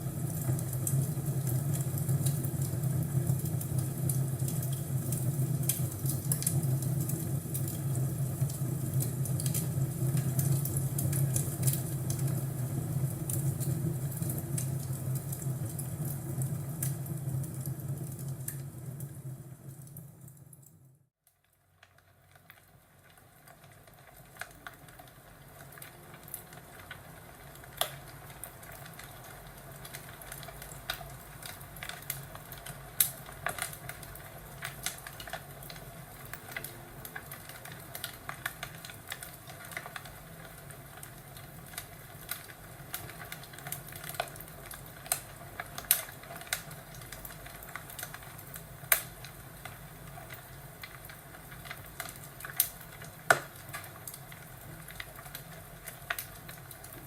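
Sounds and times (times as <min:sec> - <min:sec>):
fireplace crackling: 0:00.0 - 0:57.0.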